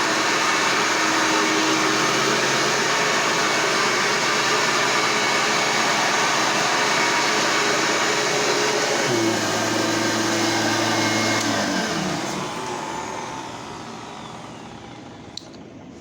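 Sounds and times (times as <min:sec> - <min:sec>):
vacuum cleaner motor: 0:00.0 - 0:16.0.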